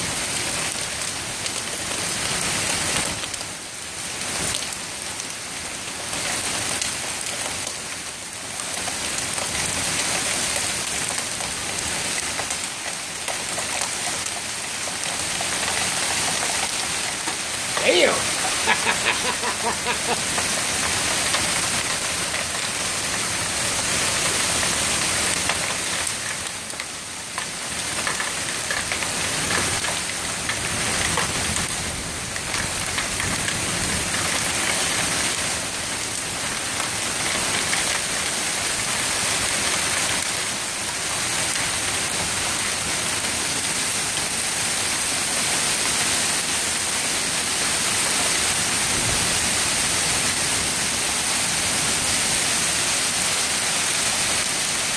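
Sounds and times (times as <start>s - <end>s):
hail and rain falling: 0.0s - 54.9s.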